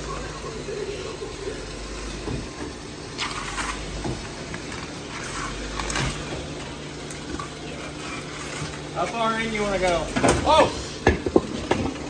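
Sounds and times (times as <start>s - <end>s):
clunks and scrapes: 2.1s - 12.0s.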